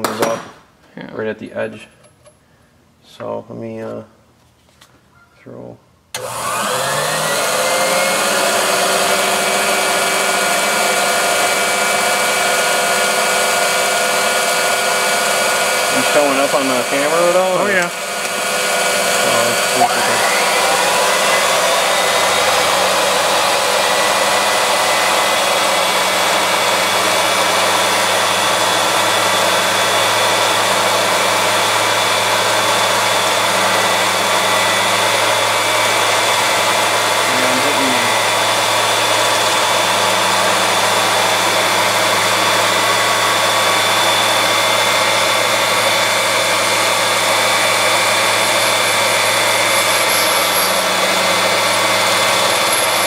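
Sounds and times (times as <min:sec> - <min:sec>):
grinding machine whining: 0:06.2 - 0:53.0.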